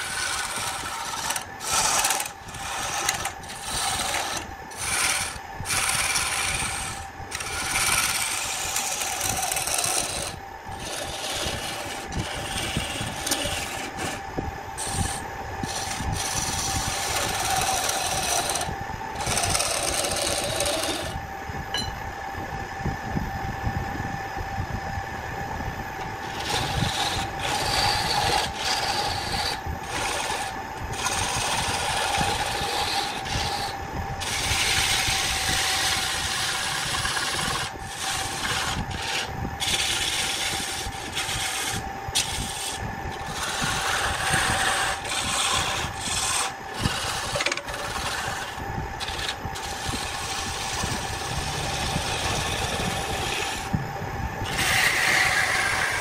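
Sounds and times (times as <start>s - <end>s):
tool scraping spinning wood: 0.0s - 22.0s, 25.9s - 56.0s
lathe humming: 0.0s - 22.8s, 25.1s - 56.0s.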